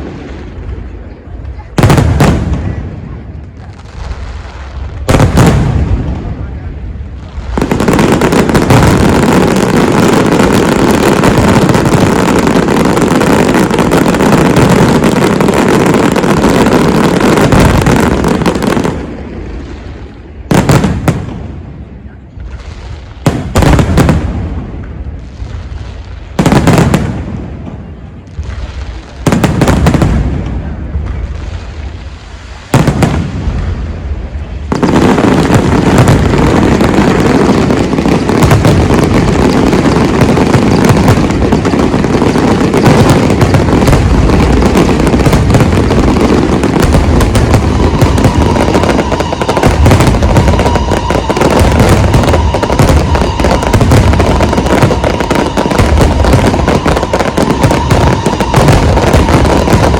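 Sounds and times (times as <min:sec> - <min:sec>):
barrage of fireworks crackling: 0:00.0 - 0:59.9
firework bangs with echo: 0:01.5 - 0:31.8, 0:32.6 - 0:59.9.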